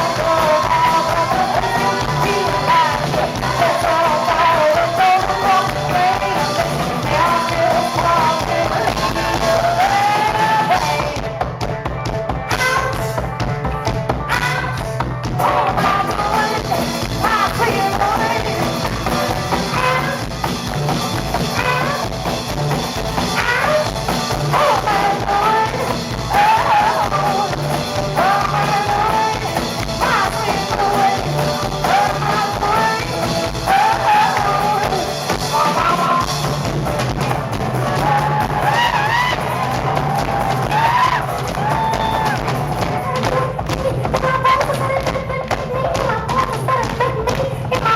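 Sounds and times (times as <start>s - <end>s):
drums: 0.0s - 47.9s
live band music: 0.0s - 47.9s.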